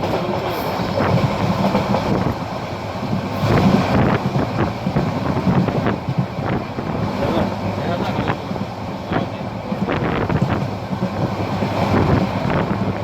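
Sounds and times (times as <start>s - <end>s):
train rumbling with rail clatter: 0.0s - 13.0s.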